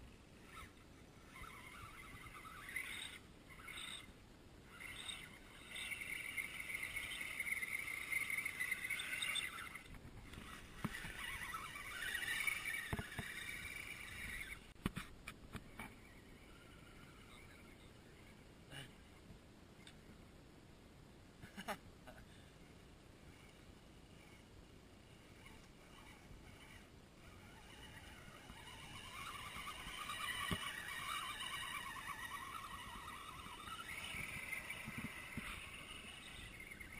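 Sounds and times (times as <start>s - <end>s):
electric motor and gears whining: 0.0s - 18.3s, 23.3s - 36.9s.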